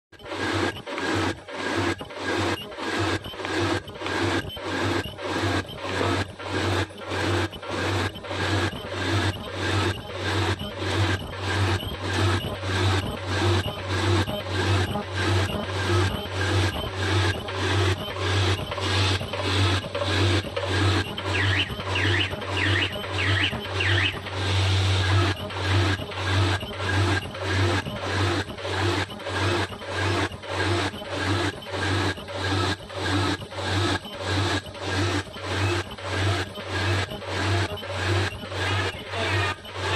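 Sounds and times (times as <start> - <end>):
low motor hum: 0.2 - 39.9
machine rushing mechanical stroke: 0.2 - 39.9.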